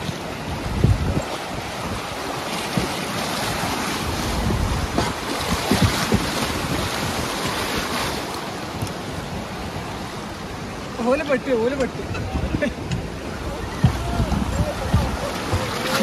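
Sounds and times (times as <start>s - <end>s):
wind buffeting microphone: 0.0s - 10.1s, 11.1s - 16.0s
white-water rapids rushing: 0.0s - 16.0s.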